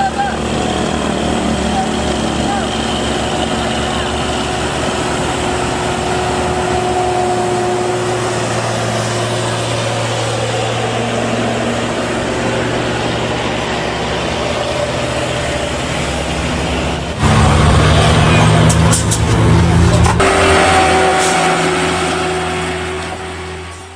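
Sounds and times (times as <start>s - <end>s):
truck engine droning under load: 0.0s - 23.9s.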